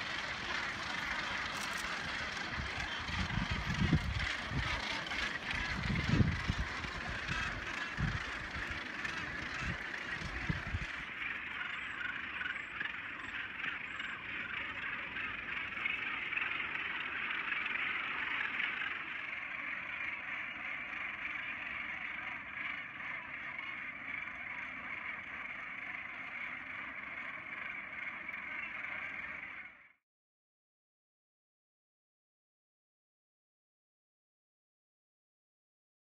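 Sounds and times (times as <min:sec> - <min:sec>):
many seabirds calling: 0:00.0 - 0:29.9.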